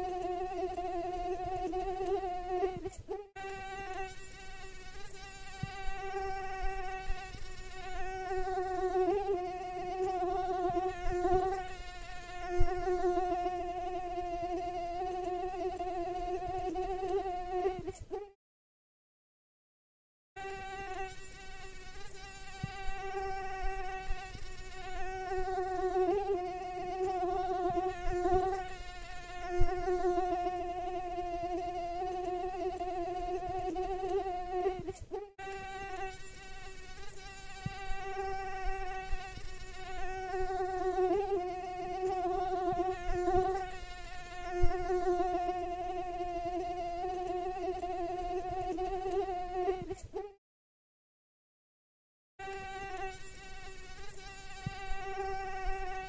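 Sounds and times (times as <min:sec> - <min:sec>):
mosquito wing whine: 0:00.0 - 0:18.4, 0:20.4 - 0:50.4, 0:52.4 - 0:56.0.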